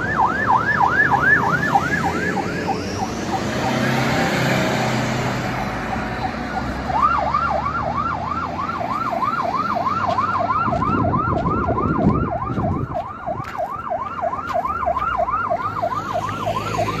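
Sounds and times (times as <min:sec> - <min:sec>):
siren in fast yelp: 0:00.0 - 0:04.1, 0:05.6 - 0:17.0
passing vehicles: 0:00.0 - 0:17.0.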